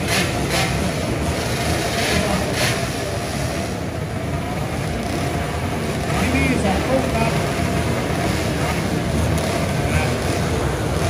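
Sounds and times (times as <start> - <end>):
motorcycles revving: 0.0 - 11.0.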